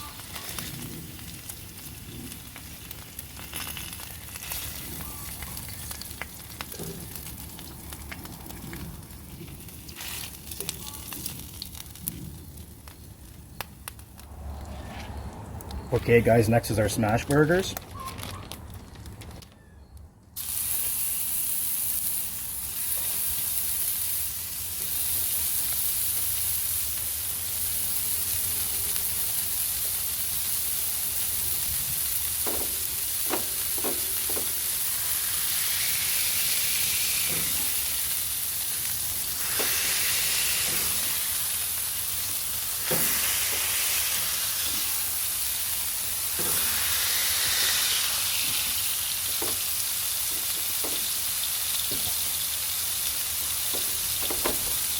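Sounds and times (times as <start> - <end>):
patties sizzling in a pan: 0.0 - 13.1, 20.4 - 54.9.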